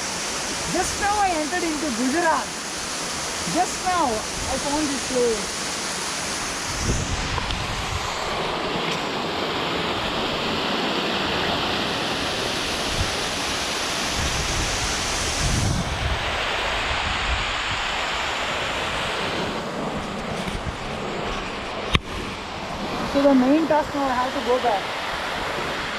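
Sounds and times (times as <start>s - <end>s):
waterfall rushing water: 0.0s - 20.5s, 21.1s - 25.9s
wind buffets on microphone: 3.4s - 5.7s, 6.3s - 25.9s.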